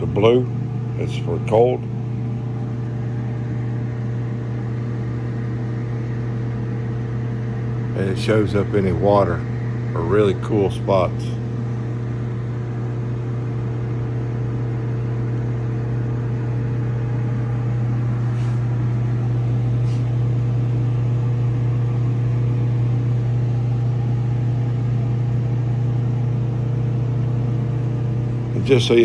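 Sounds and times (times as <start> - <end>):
machinery electrical hum: 0.0 - 29.0.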